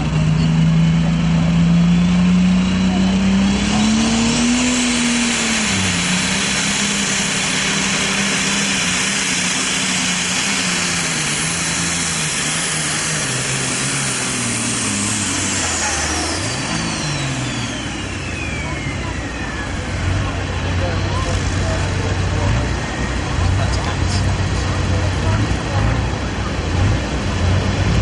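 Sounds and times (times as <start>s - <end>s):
tractor engine lugging: 0.0s - 28.0s.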